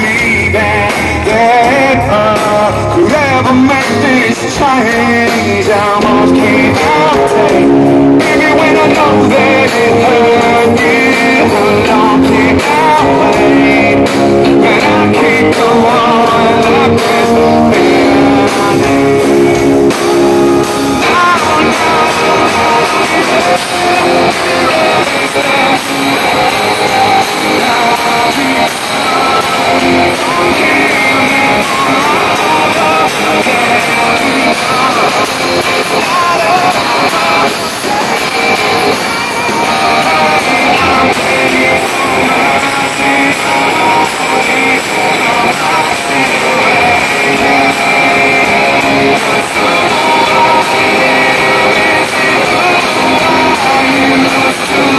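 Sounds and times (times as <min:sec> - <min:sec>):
live rock band playing: 0:00.0 - 0:54.9
person singing: 0:00.0 - 0:54.9.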